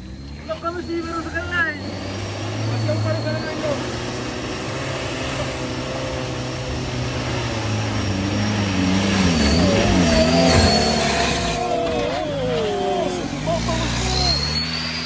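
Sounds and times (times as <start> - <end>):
diesel truck engine labouring: 0.0 - 15.0.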